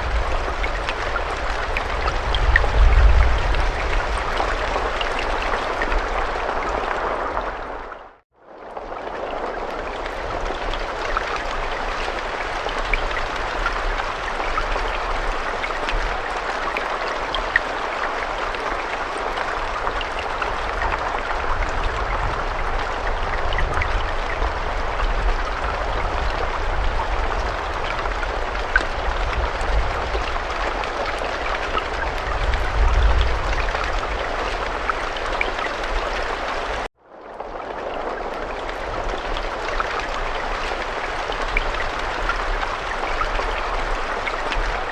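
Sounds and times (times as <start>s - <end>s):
raindrops ticking: 0.0s - 8.0s, 8.7s - 44.9s
rain falling: 0.0s - 44.9s.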